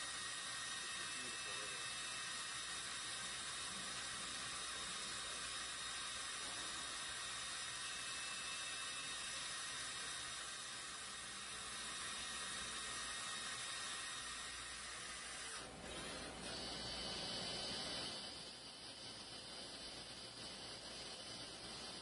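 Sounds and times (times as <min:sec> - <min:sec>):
lathe cutting metal: 0:00.0 - 0:22.0.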